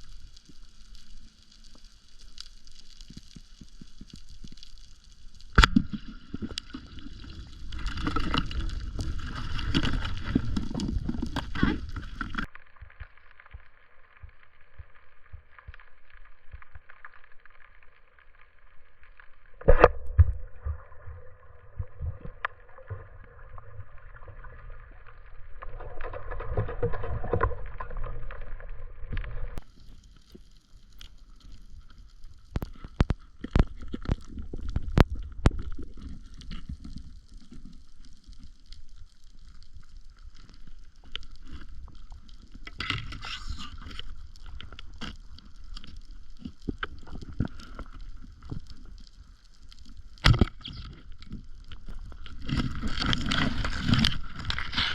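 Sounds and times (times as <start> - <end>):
underwater rumble: 0.0 - 54.9.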